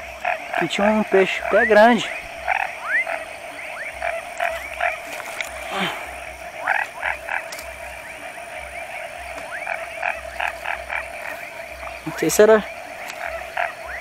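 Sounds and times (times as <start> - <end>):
frogs calling: 0.0 - 14.0
steady background drone: 0.0 - 14.0.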